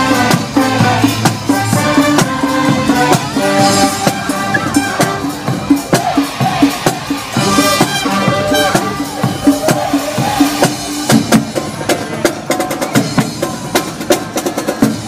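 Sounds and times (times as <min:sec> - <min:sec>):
brass marching tune: 0:00.0 - 0:14.9
steady drum beat: 0:00.0 - 0:15.0.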